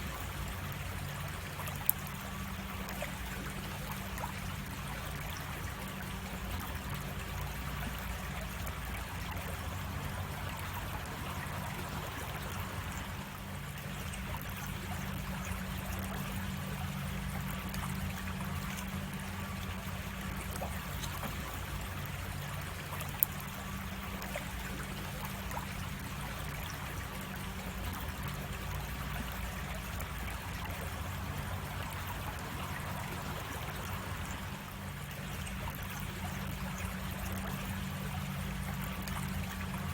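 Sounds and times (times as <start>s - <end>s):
creek water trickling over cascade: 0.0s - 39.9s.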